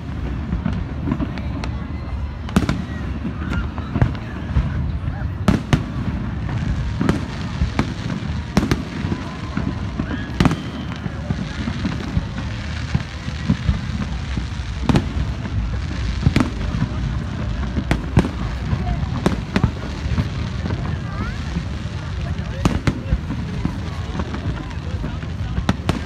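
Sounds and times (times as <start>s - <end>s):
fireworks bursting with sharp bangs: 0.0s - 26.0s.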